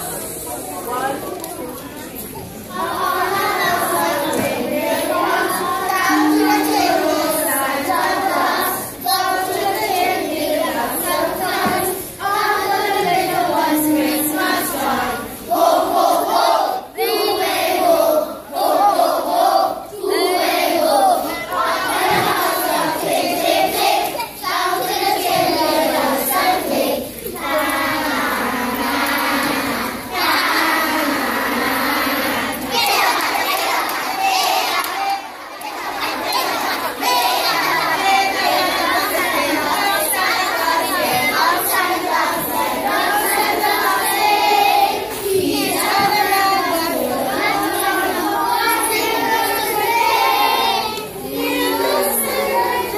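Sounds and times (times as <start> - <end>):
children singing together: 2.2 - 52.9.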